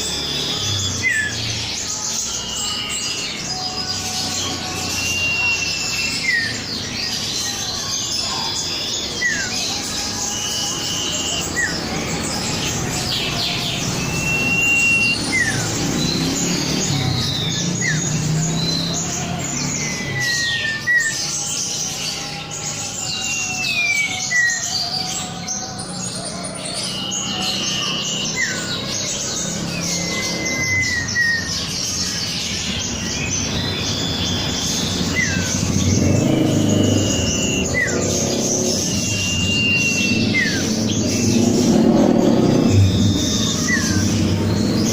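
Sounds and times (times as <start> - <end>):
bird whistling song: 0.0 - 44.9
chattering bird calls: 0.0 - 44.9.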